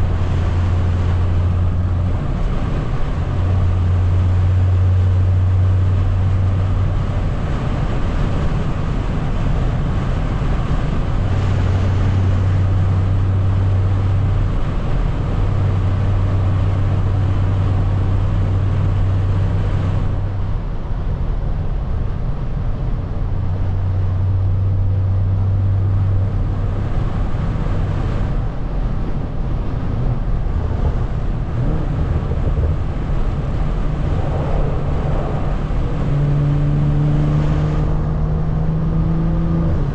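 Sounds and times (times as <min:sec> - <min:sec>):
car engine cruising: 0:00.0 - 0:39.9
low exhaust drone: 0:00.0 - 0:39.9
road and tyre noise: 0:00.0 - 0:39.9.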